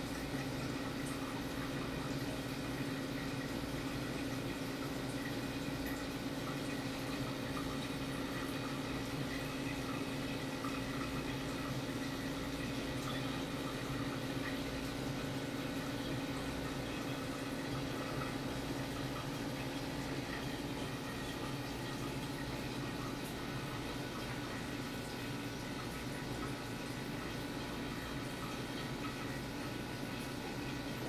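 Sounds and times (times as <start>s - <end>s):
aquarium filter hum: 0.0s - 31.0s.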